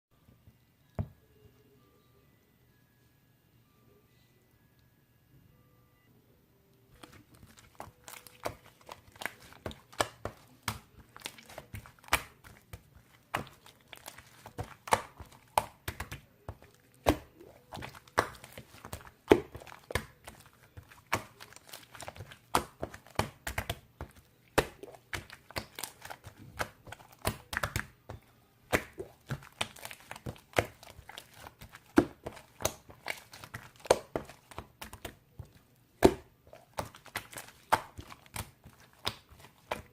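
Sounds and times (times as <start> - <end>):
clicks crackles and crinkles: 6.7 - 39.9.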